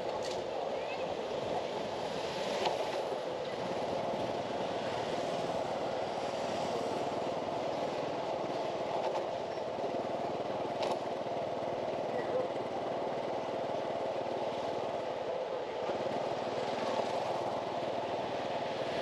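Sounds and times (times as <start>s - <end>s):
street traffic hum: 0.0s - 19.0s.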